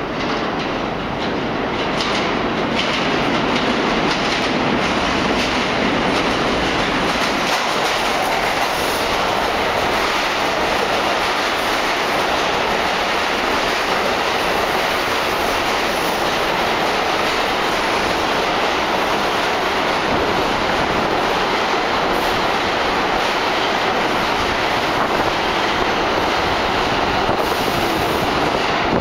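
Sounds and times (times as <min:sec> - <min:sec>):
train wheels rumbling on rail: 0:00.0 - 0:29.0
wheels clicking over rail joints: 0:00.0 - 0:29.0.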